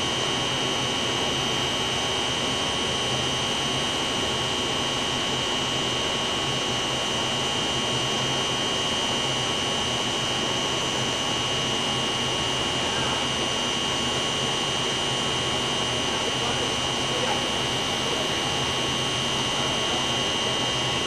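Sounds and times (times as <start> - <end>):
high-pitched machine whine: 0.0 - 21.0.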